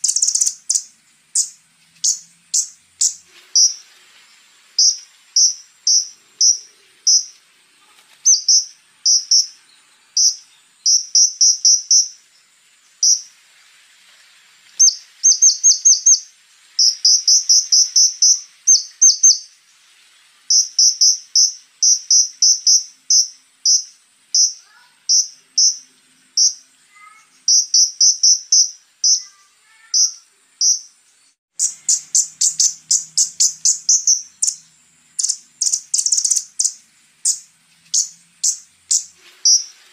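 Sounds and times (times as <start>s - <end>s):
bird singing sharp high chips: 0.0s - 3.9s, 4.8s - 7.4s, 8.0s - 12.2s, 12.9s - 13.4s, 14.8s - 19.6s, 20.5s - 39.9s
high insect-like whine: 0.0s - 39.9s.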